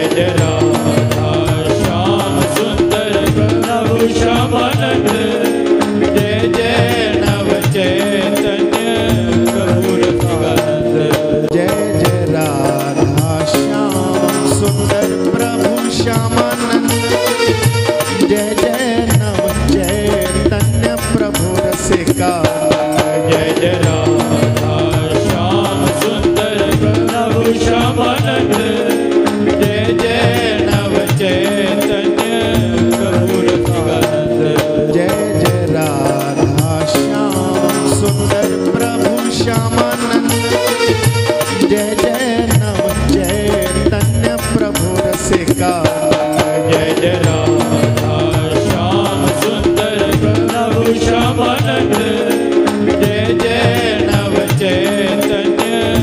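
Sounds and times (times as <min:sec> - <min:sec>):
hand drums: 0:00.0 - 0:56.0
held melodic line: 0:00.0 - 0:56.0
jingling percussion: 0:00.0 - 0:56.0.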